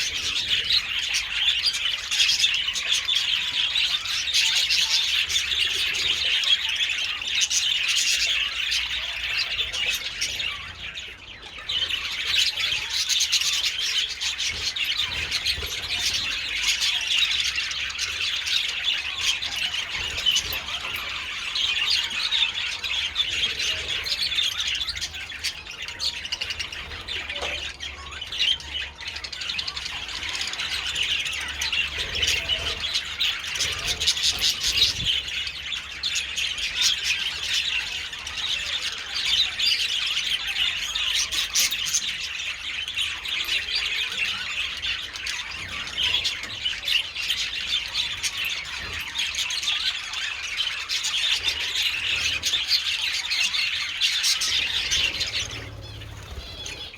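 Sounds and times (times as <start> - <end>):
budgerigars chattering: 0.0 - 56.9.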